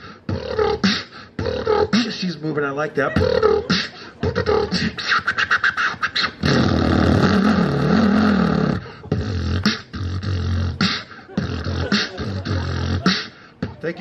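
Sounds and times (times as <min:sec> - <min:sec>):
man beatboxing: 0:00.0 - 0:14.0.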